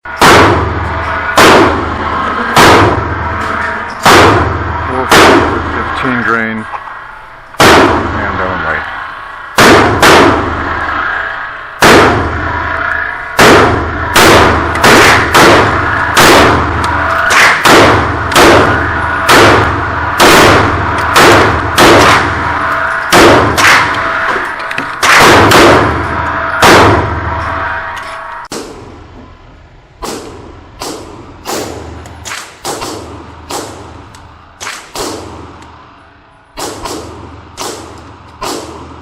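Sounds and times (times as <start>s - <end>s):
pistol shots: 0.1s - 3.4s, 4.0s - 5.9s, 7.6s - 8.4s, 9.6s - 10.9s, 11.8s - 27.6s, 28.5s - 29.0s, 30.0s - 35.6s, 36.6s - 39.0s.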